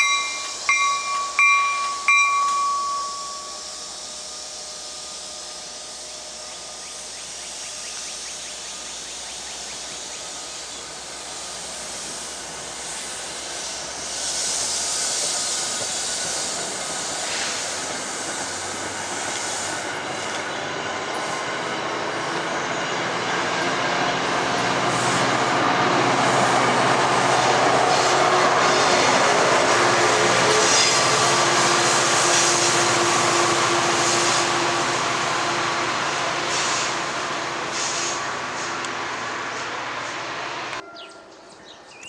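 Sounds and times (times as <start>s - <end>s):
rushing hiss: 0.0s - 22.7s, 23.4s - 40.8s
train wheels rumbling on rail: 0.0s - 41.2s.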